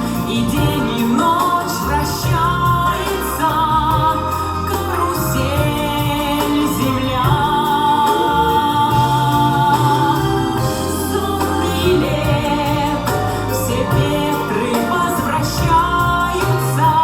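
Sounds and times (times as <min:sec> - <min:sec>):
instrumental backing: 0:00.0 - 0:17.0
woman singing: 0:00.0 - 0:17.0.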